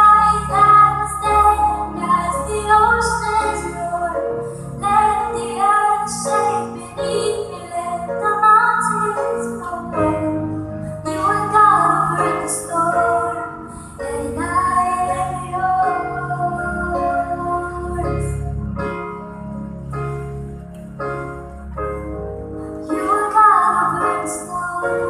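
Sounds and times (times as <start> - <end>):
woman singing: 0.0 - 18.5, 22.9 - 25.0.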